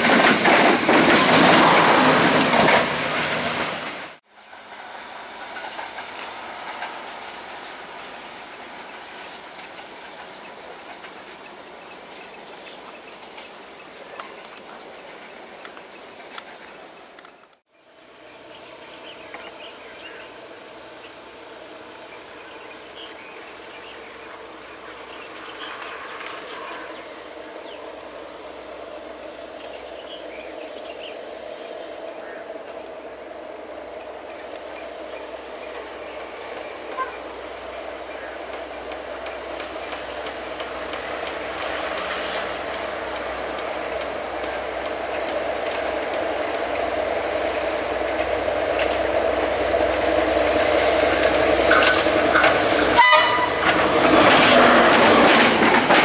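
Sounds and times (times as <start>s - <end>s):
diesel train running: 0.0s - 56.0s
train engine hum: 0.0s - 56.0s
insects chirring: 4.4s - 56.0s.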